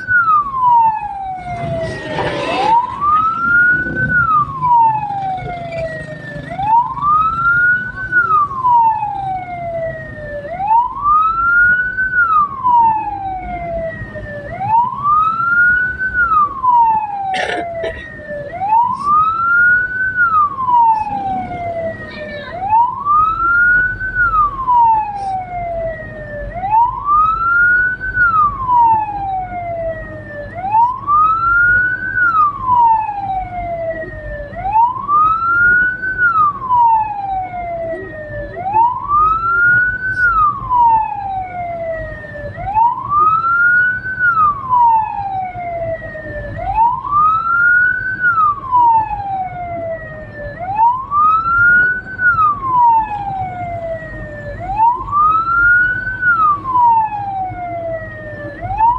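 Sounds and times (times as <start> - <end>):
low vehicle rumble: 0.0 - 58.9
wailing siren: 0.0 - 58.9.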